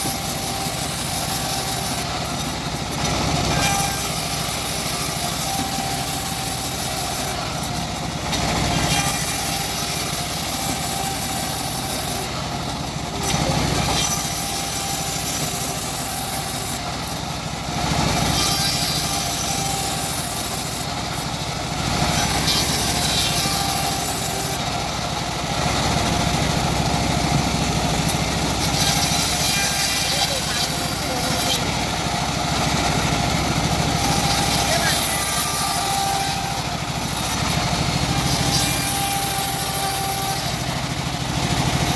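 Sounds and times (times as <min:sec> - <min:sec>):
bandsaw mill sawing a log: 0:00.0 - 0:41.9.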